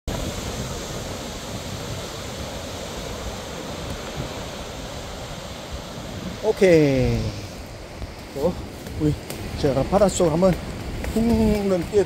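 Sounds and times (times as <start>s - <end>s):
sea surf breaking over rocks: 0.1s - 12.0s.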